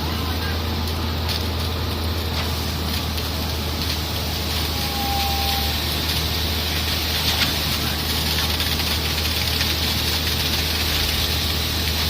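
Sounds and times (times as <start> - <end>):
heavy machinery engine humming: 0.0 - 12.0.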